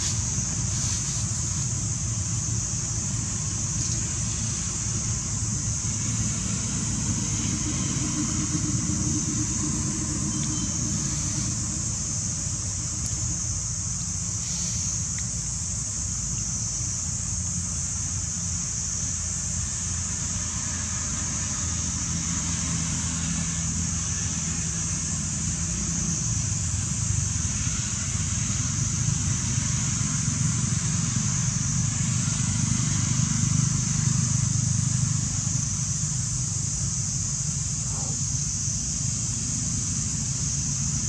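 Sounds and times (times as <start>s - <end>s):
constant high hiss: 0.0s - 41.0s
low engine-like rumble: 0.0s - 41.0s.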